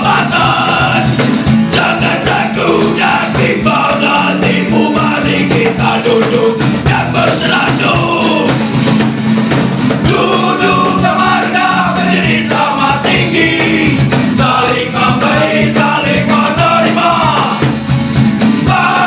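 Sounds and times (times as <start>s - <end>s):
man singing: 0.0s - 8.7s, 10.0s - 17.7s, 18.6s - 19.0s
electric bass: 0.0s - 19.0s
steady beat: 0.0s - 19.0s
strummed acoustic guitars: 0.0s - 19.0s.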